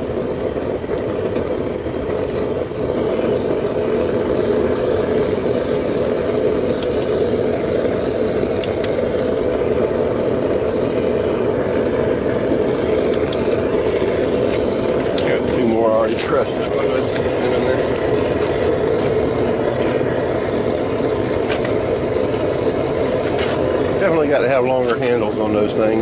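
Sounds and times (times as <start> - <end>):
propane burner roaring: 0.0 - 26.0.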